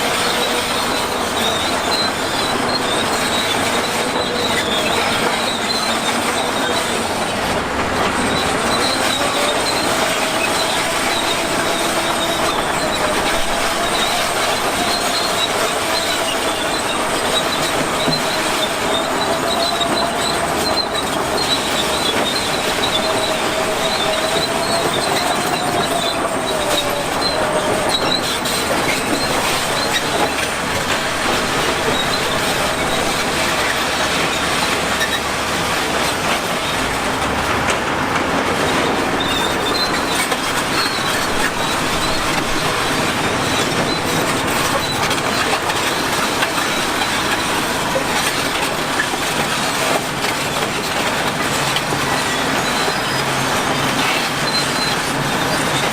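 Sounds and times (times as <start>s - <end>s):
metallic squeal: 0.0s - 36.9s, 38.8s - 55.9s
bulldozer tracks clattering: 0.0s - 55.9s.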